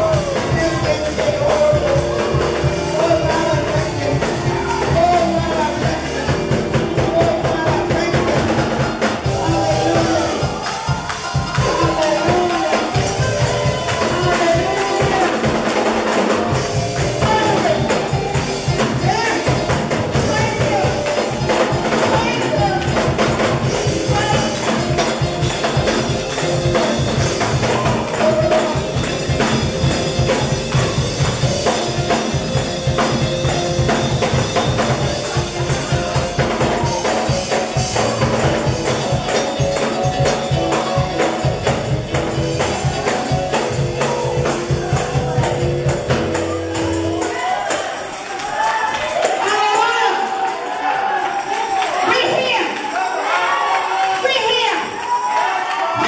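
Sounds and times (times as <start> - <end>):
held chords: 0.0 - 51.8
tambourine rhythm: 0.0 - 56.0.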